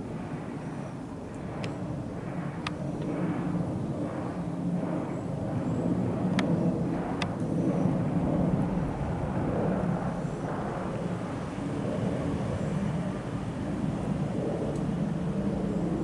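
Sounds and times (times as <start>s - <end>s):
jet airliner rumble overhead: 0.0s - 16.0s.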